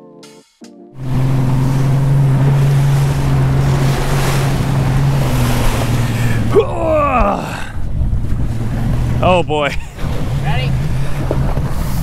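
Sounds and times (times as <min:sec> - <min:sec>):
motorboat engine drone: 0:01.0 - 0:12.0
water rushing past hull: 0:01.0 - 0:12.0
wind buffeting microphone: 0:01.0 - 0:12.0.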